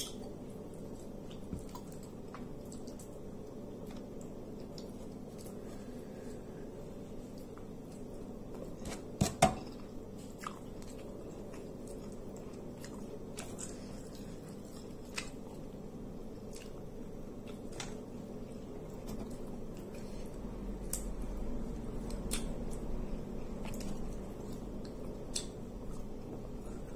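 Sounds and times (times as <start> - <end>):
chewing: 0.0 - 6.4, 9.6 - 15.8, 16.4 - 21.1, 22.0 - 26.9
low room hum: 0.0 - 26.9.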